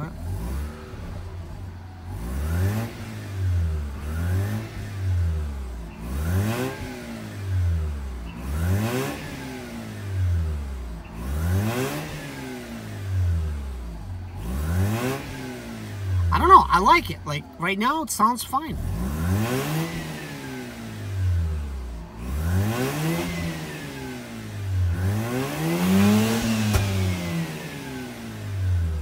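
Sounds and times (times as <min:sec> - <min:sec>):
rotary engine revving: 0:00.0 - 0:18.0, 0:18.7 - 0:29.0.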